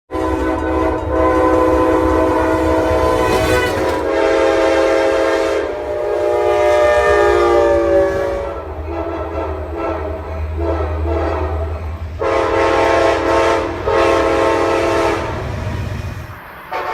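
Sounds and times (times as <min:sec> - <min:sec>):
train air horn chord: 0:00.1 - 0:15.5, 0:16.7 - 0:16.9
train rumble: 0:00.1 - 0:16.9.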